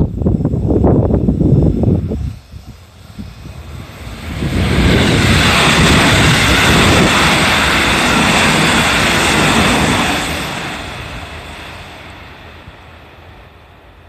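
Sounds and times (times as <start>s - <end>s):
electric train passing: 0.0s - 14.0s.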